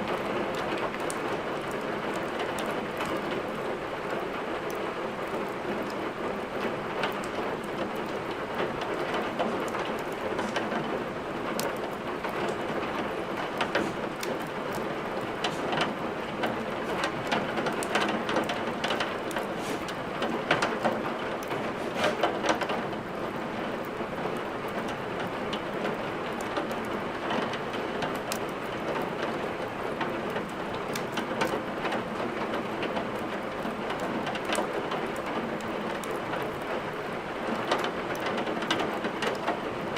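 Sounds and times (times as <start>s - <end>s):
steady rain: 0.0s - 39.9s
wood crackling in a fireplace: 0.0s - 39.9s.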